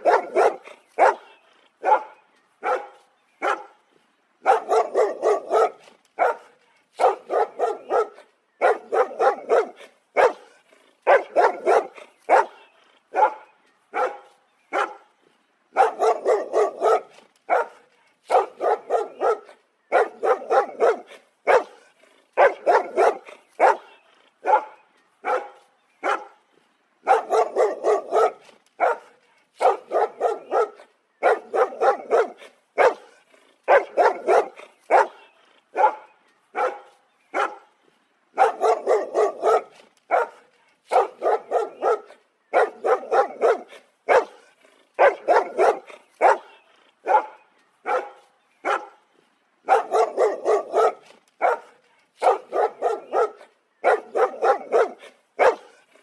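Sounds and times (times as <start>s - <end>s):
dog barking: 0.0s - 3.8s, 4.4s - 15.1s, 15.8s - 21.8s, 22.4s - 26.4s, 27.0s - 37.7s, 38.4s - 44.4s, 45.0s - 49.0s, 49.6s - 55.8s.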